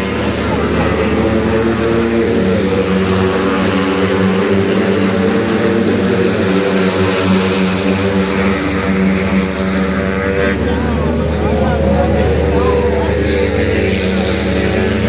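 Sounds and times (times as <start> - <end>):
racing motorcycle engines droning: 0.0 - 15.0.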